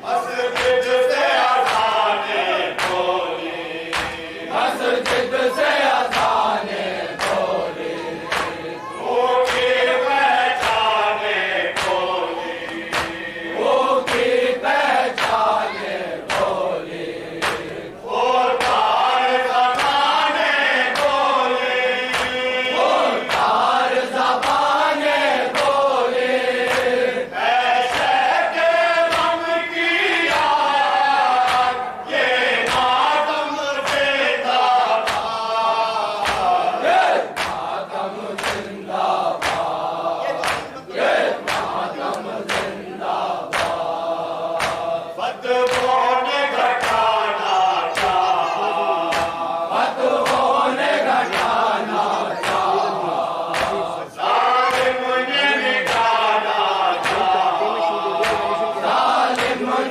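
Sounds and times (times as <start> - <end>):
lead reciter on microphone: 0.0 - 59.9
men chanting in unison: 0.0 - 59.9.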